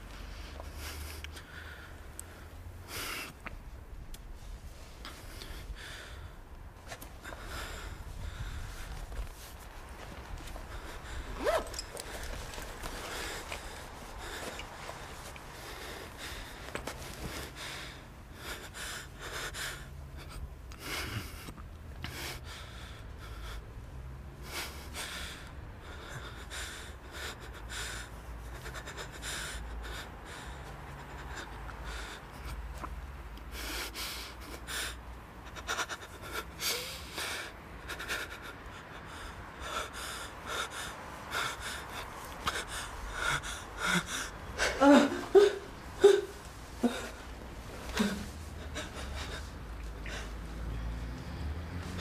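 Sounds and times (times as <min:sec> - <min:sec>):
people breathing and gasping: 0:00.0 - 0:52.0.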